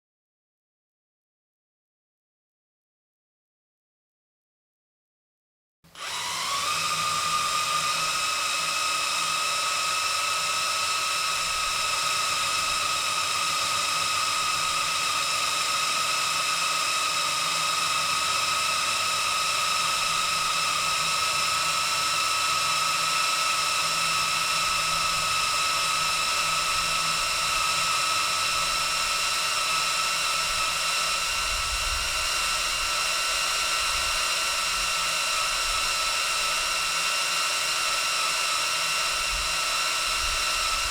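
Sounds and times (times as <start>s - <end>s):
drill motor whining: 5.9s - 40.9s.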